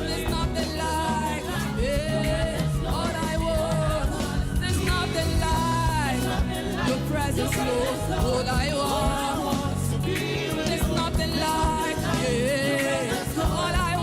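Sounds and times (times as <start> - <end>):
gospel piano music: 0.0 - 14.0.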